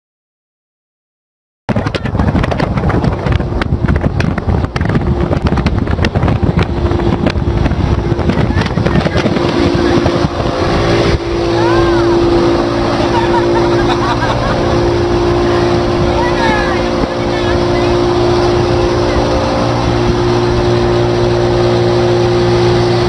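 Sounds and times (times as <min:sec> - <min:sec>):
engine drone: 0:01.7 - 0:23.0
road and wind noise: 0:01.7 - 0:23.0
wind buffeting microphone: 0:01.7 - 0:23.0.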